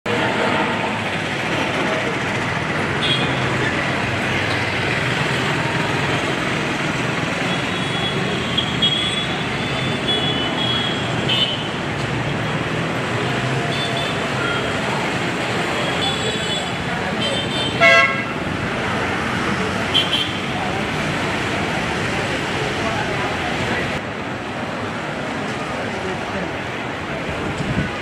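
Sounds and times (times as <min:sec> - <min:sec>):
motorcycles passing: 0:00.1 - 0:28.0
traffic on wet road: 0:00.1 - 0:28.0.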